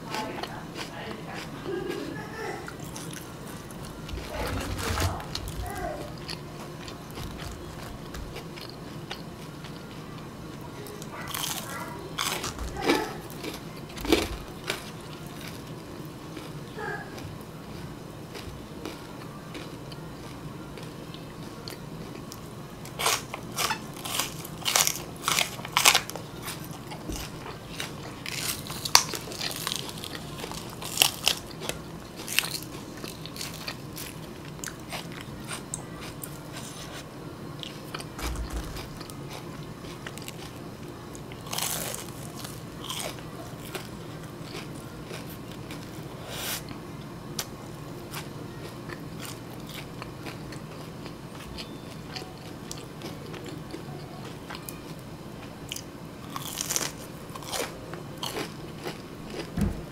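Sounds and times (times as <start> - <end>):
person crunching and chewing food: 0.0 - 59.5.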